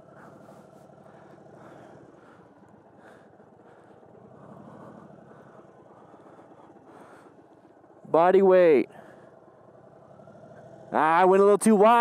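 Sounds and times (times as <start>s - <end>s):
faint motorcycle engine: 0.0s - 12.0s.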